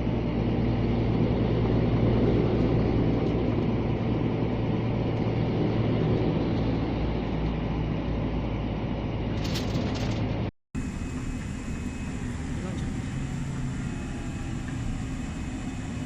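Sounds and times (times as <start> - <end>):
lorry diesel engine running: 0.0 - 16.0.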